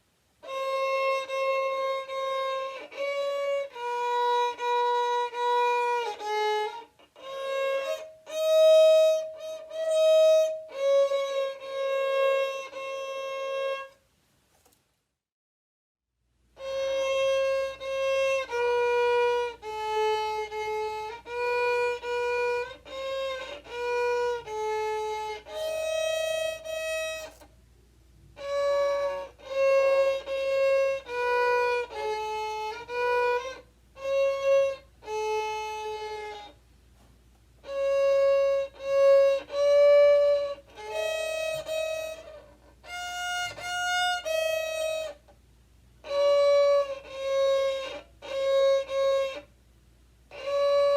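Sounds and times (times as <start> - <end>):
solo instrument melody: 0.0 - 14.1, 16.2 - 50.9.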